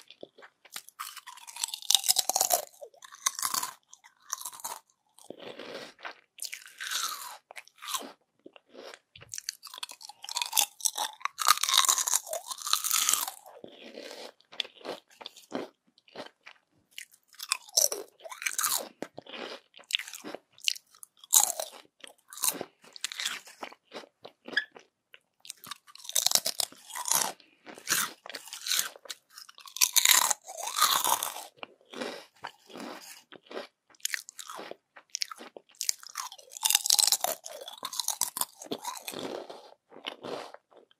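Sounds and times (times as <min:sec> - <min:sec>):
crunching crispy chips: 0:00.0 - 0:16.4, 0:17.0 - 0:24.8, 0:25.5 - 0:40.9.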